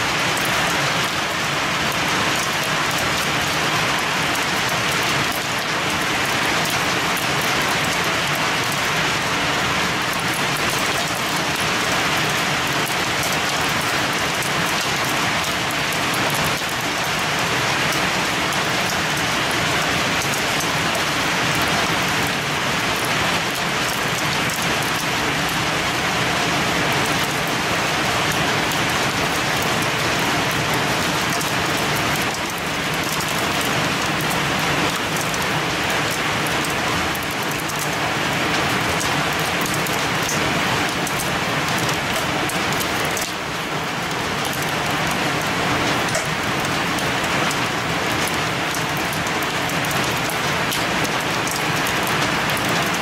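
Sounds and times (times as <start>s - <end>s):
heavy rain and hail on window: 0.0s - 53.0s.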